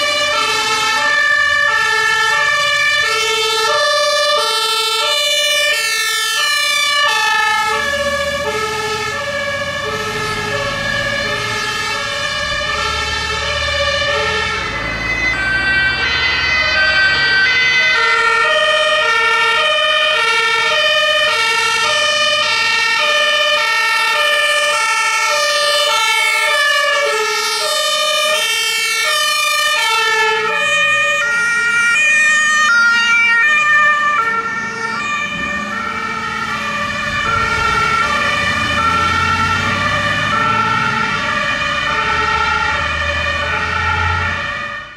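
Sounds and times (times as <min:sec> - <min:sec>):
fire truck diesel rumble: 0:00.0 - 0:44.9
two-tone fire engine sirens: 0:00.0 - 0:44.9.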